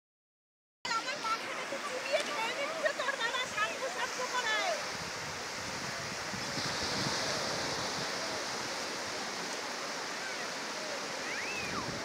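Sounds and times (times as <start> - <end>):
sea surf breaking on beach: 0.9 - 12.0.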